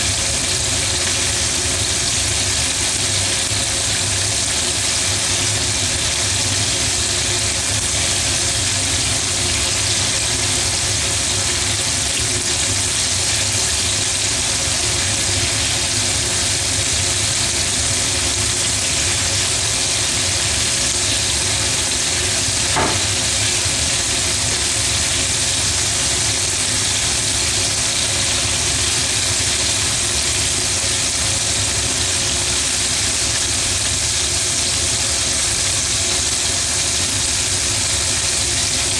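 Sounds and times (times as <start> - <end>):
meat deep-frying in hot oil: 0.0 - 38.9.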